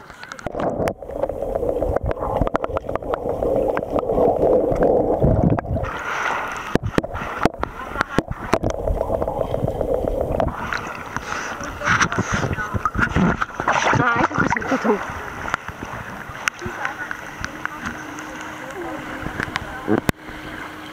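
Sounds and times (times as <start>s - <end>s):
dog paddling in water: 0.0s - 20.9s
muffled underwater gurgling: 0.0s - 20.9s
water splashing: 0.0s - 20.9s.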